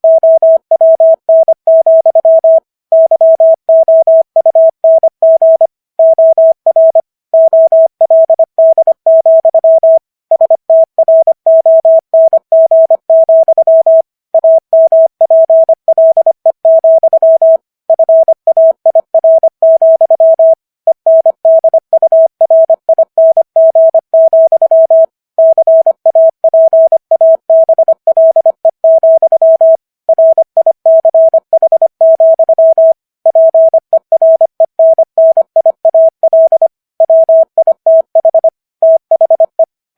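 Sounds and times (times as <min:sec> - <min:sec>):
morse code tone: 0:00.0 - 0:39.7.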